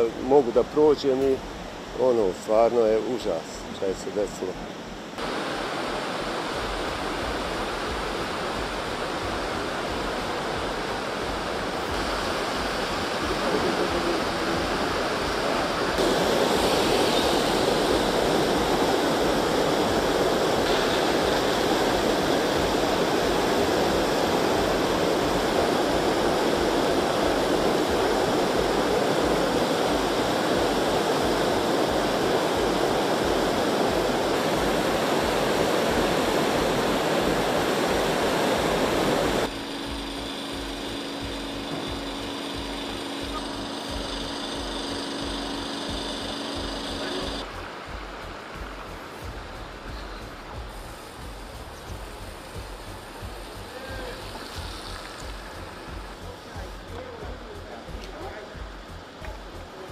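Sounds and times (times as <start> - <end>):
floodwater rushing: 5.2 - 59.9.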